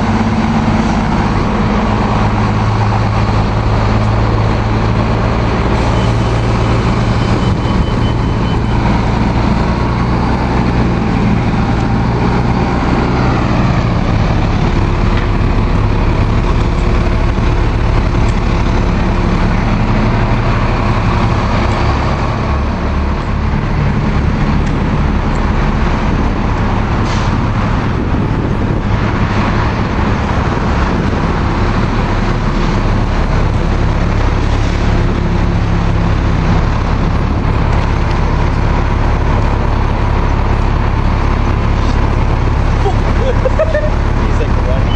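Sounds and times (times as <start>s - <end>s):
bus engines droning: 0.0s - 44.9s.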